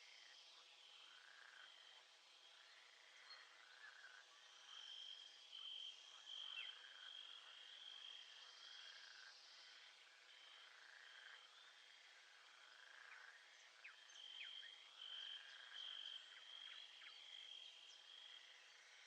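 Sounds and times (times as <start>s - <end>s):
high trill of frogs and insects: 0.0s - 19.0s.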